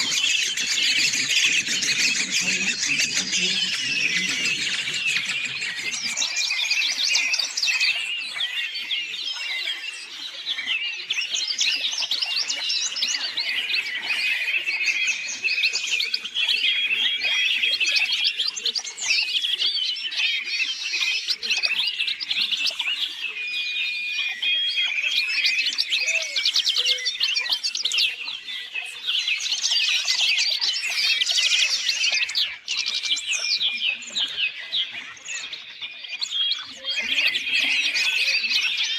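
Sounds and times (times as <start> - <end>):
songbird chirps and trills: 0.0 - 38.9.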